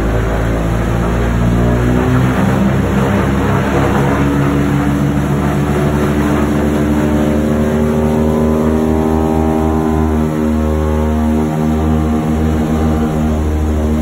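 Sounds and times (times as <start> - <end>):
aircraft engines droning: 0.0 - 14.0.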